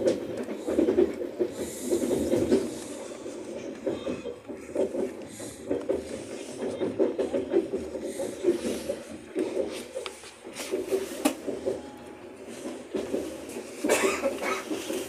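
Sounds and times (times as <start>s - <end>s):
train interior rumbling: 0.0s - 15.0s.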